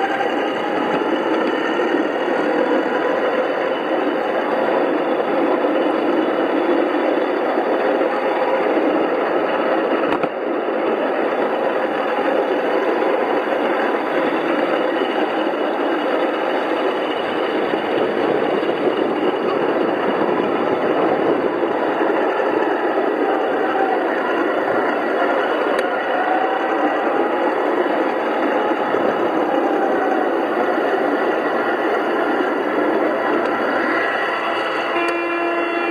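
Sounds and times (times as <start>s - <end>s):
train wheels rolling on track: 0.0s - 35.9s.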